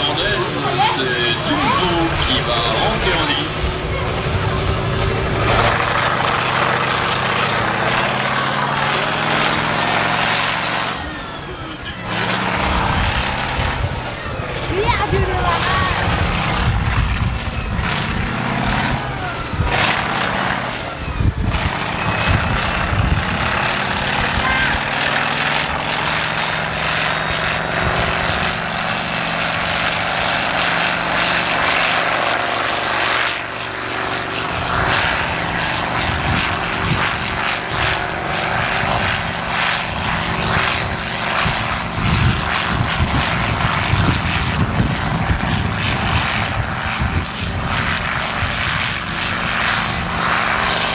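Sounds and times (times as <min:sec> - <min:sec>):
tractor engine running hard: 0:00.0 - 0:50.9.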